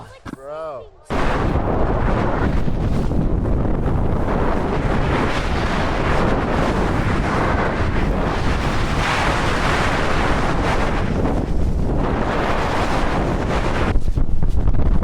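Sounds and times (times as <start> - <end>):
heavy wind buffeting microphone: 1.1 - 15.0.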